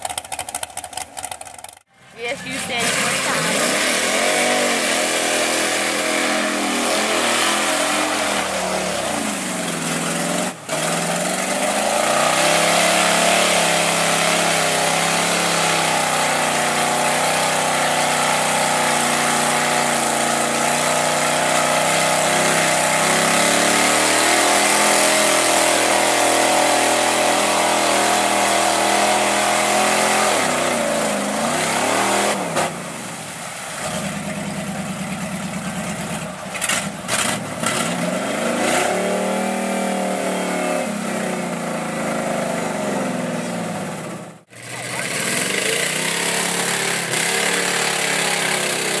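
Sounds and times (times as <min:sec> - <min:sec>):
truck engine revving in mud: 0:00.0 - 0:49.0.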